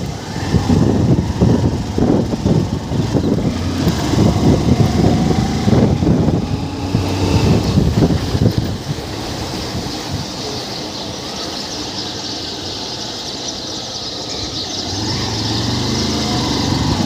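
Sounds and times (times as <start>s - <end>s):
wind rush on microphone: 0.0s - 11.5s, 14.8s - 17.0s
motorcycle engine hum: 0.0s - 17.0s.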